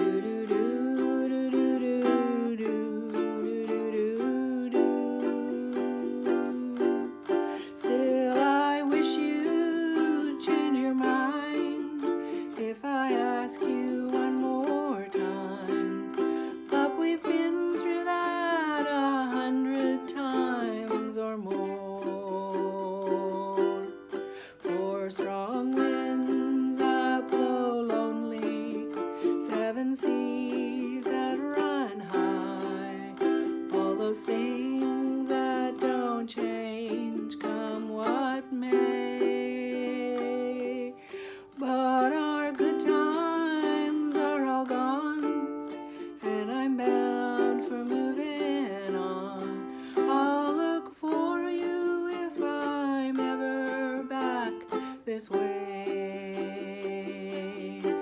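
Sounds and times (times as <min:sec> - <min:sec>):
person singing: 0:00.0 - 0:58.0
ukulele strumming: 0:00.0 - 0:58.0.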